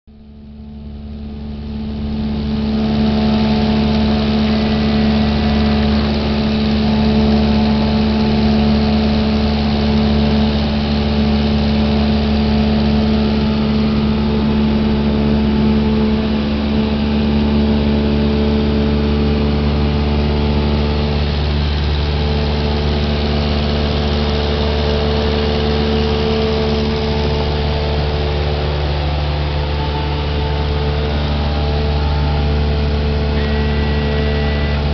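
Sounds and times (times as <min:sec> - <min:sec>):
airplane engine droning in cabin: 0:00.1 - 0:34.9.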